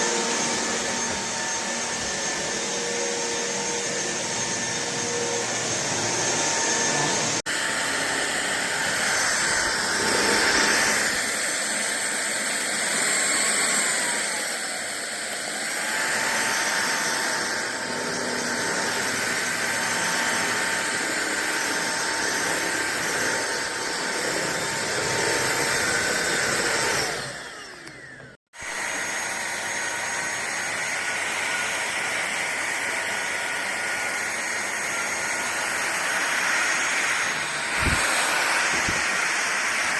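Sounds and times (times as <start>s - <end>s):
stick vacuum cleaner running: 0.0s - 39.9s.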